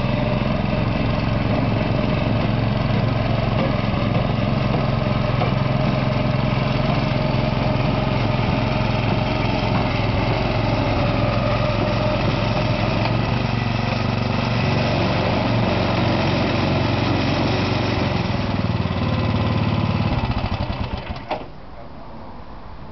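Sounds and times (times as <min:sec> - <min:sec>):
small petrol engine running: 0:00.0 - 0:21.4.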